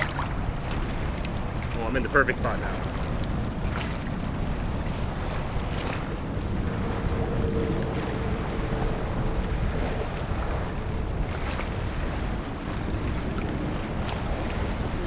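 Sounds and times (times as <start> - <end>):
water lapping: 0.0 - 15.0
wind buffeting microphone: 0.0 - 15.0.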